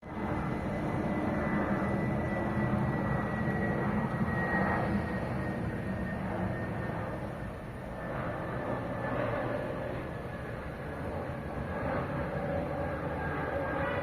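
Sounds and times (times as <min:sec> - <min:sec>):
airplane engines running: 0:00.0 - 0:14.0.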